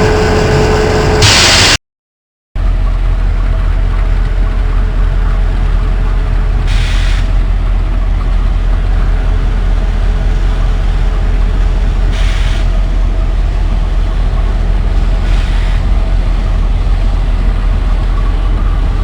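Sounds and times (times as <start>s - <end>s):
train low rumble: 0.0s - 1.7s, 2.6s - 19.0s.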